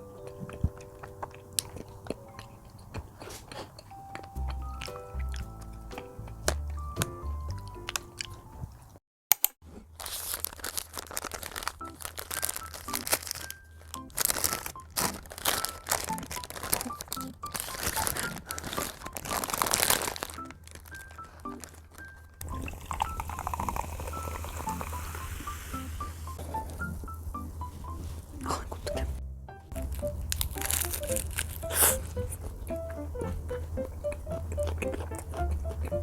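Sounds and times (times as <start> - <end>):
light background music: 0.0 - 8.7, 11.8 - 36.0
crunching of crisp food: 0.0 - 8.9, 9.7 - 26.9, 29.7 - 36.0.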